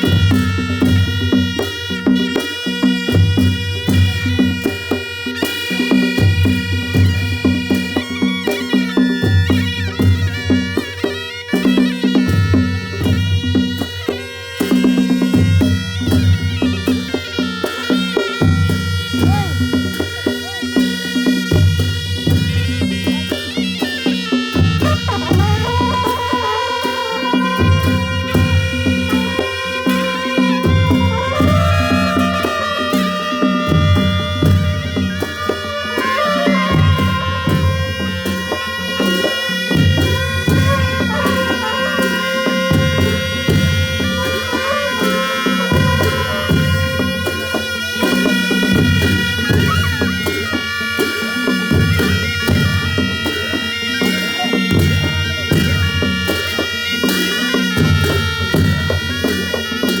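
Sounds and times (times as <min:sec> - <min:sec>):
reedy wind instruments: 0:00.0 - 1:00.0.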